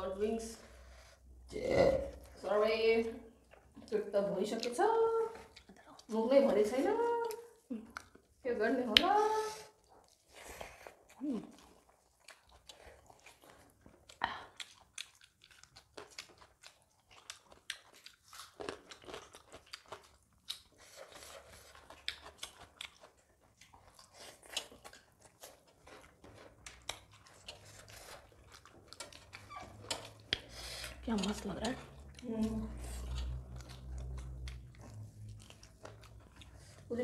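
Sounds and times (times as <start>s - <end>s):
people chewing: 0.4s - 37.0s.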